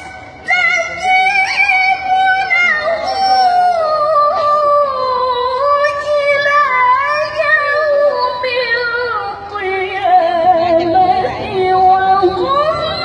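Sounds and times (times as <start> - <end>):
woman reciting melodically: 0.0 - 13.0.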